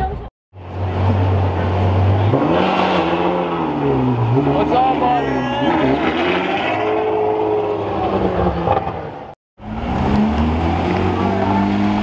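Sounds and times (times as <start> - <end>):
sports car engine pulling away: 0.7 - 12.0.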